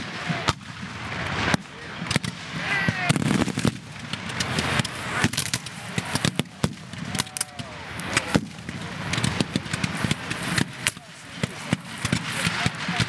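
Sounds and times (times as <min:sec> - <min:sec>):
rifles firing sharp cracks: 0:00.0 - 0:13.0.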